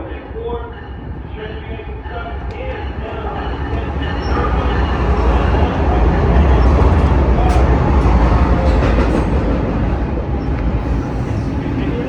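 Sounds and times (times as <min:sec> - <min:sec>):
train rumbling past: 0:00.2 - 0:12.0.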